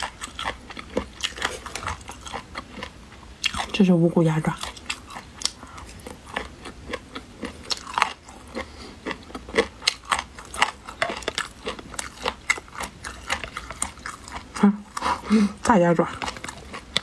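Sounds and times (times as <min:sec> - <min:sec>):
person chewing: 0:00.0 - 0:03.8, 0:04.4 - 0:17.0.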